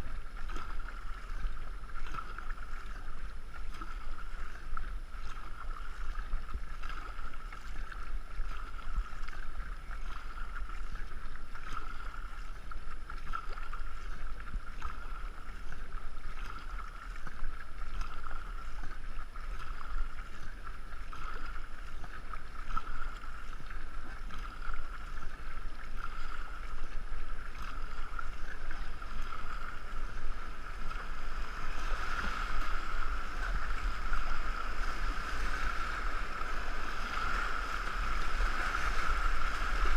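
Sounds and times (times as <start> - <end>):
paddle strokes: 0.0 - 39.9
water rushing along hull: 0.0 - 39.9.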